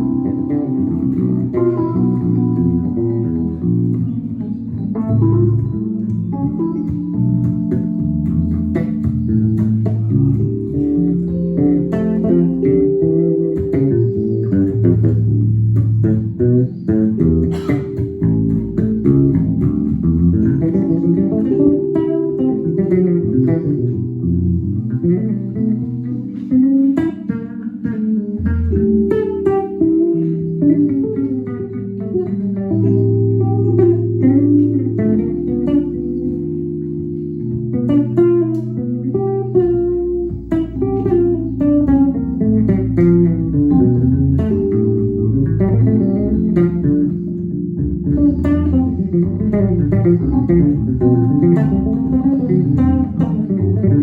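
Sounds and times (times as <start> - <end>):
held low bass notes: 0.0 - 54.0
plucked guitar notes: 0.0 - 54.0.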